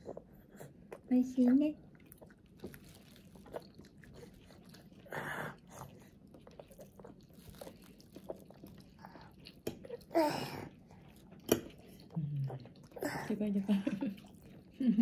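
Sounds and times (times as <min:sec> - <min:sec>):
quiet chewing: 0:00.0 - 0:15.0.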